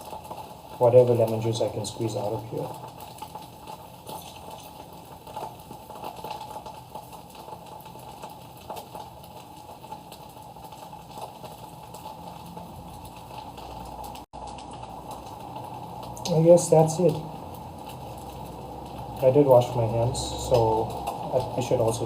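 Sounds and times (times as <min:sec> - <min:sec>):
pot bubbling and sizzling: 0:00.0 - 0:22.0.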